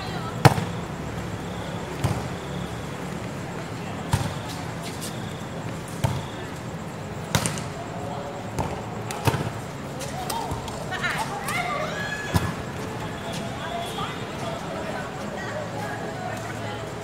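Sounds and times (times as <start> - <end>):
court noise hum: 0.0 - 17.0.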